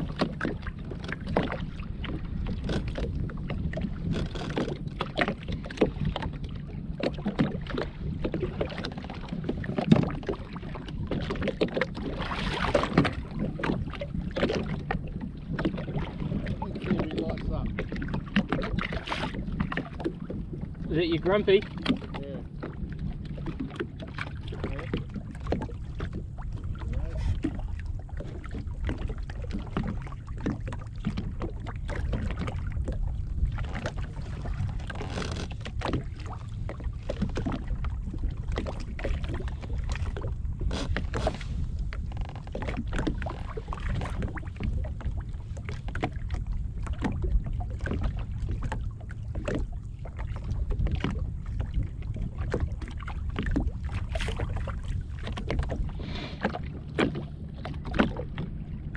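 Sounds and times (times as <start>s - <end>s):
low rumble: 0.0s - 58.9s
water lapping against a hull: 0.0s - 58.9s.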